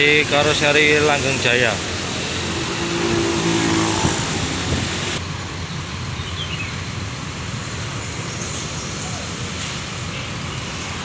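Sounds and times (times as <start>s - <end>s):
coach diesel engine drone: 0.0s - 11.0s
traffic hum: 0.0s - 11.0s.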